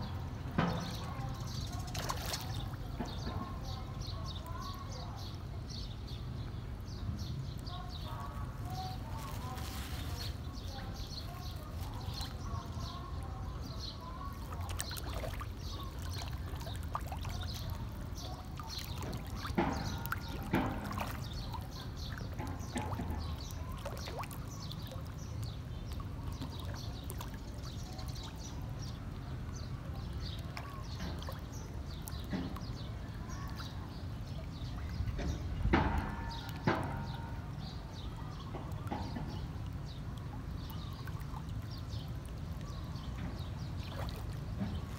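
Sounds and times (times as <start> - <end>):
fish splashing at water surface: 0.4 - 5.5, 7.6 - 44.9.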